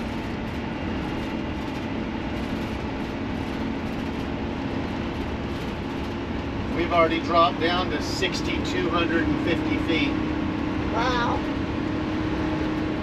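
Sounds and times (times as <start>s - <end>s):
low steady drone: 0.0s - 13.0s
road and drivetrain noise: 0.0s - 13.0s.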